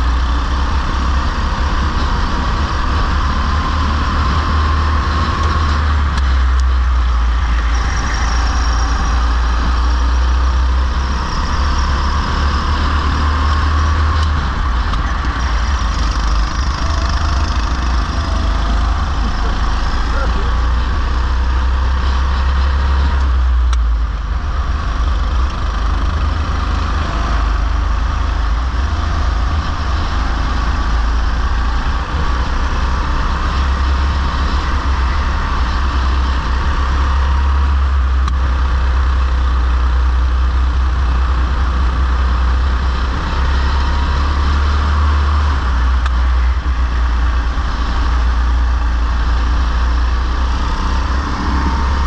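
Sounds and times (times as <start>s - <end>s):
go-kart engine rumbling: 0.0s - 52.0s.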